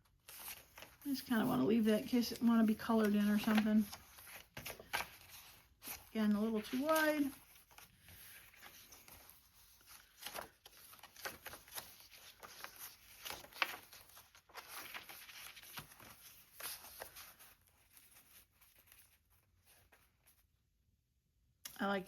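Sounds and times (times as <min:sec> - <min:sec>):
paper rustling and tapping: 0:00.2 - 0:20.0.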